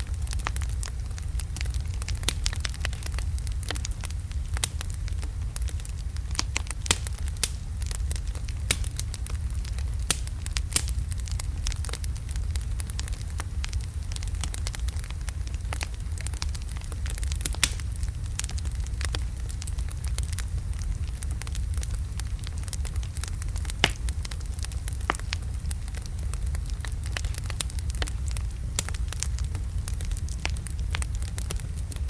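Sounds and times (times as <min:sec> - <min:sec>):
fire crackling and popping: 0:00.0 - 0:32.0
wood fire rumbling: 0:00.0 - 0:32.0.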